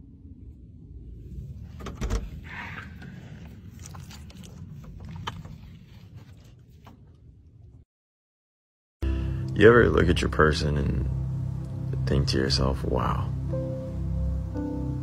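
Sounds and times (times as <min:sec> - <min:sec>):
low rumble: 0:00.0 - 0:06.6, 0:09.0 - 0:15.0.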